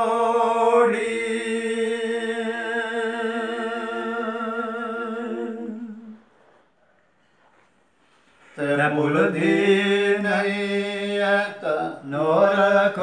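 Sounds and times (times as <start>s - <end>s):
man singing unaccompanied: 0.0s - 6.2s, 8.6s - 13.0s.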